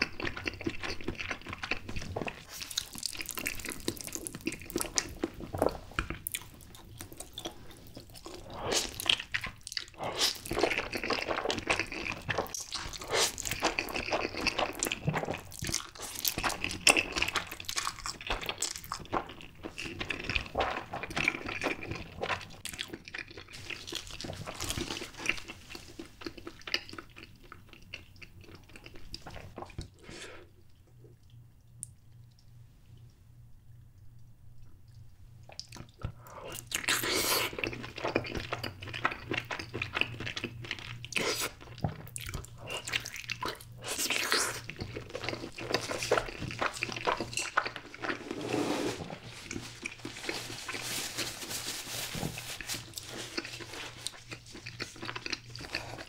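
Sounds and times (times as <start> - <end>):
noodles slurped and chewed: 0.0 - 30.6, 35.5 - 56.0.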